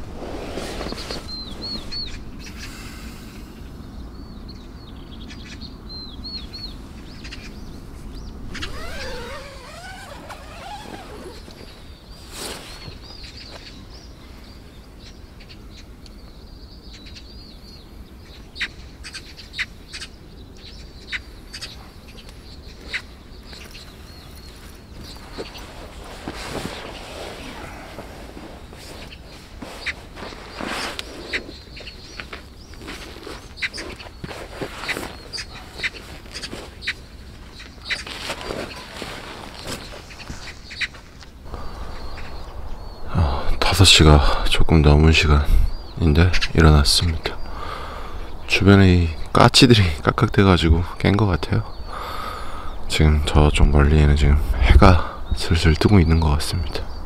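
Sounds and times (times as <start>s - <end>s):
birds chirping: 0.0s - 57.0s
magpies calling: 0.8s - 57.0s.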